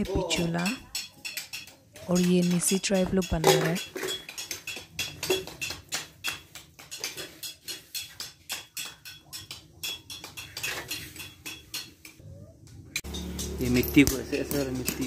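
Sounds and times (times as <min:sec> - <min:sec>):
hand tools tapping metal: 0:00.0 - 0:15.0.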